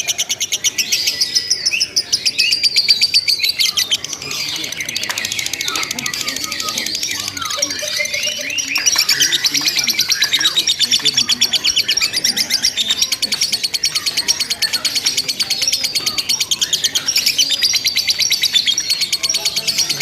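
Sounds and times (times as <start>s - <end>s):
lovebirds chattering trill: 0.0s - 20.0s.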